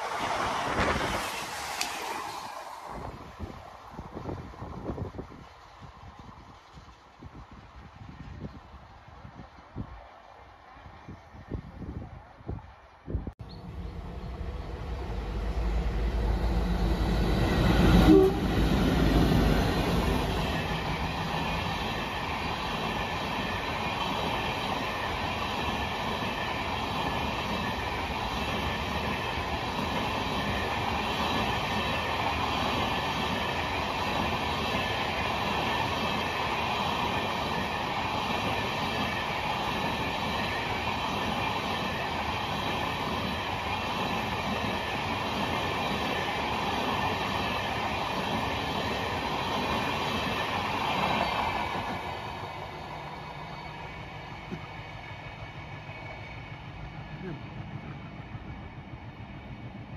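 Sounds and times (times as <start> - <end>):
diesel locomotives rumbling past: 0.0 - 59.9
train wheels rolling on rails: 0.0 - 59.9.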